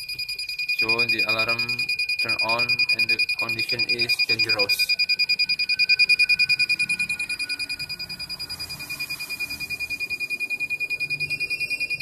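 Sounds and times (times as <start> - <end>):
electronic alarm buzzer beeping: 0.0 - 12.0.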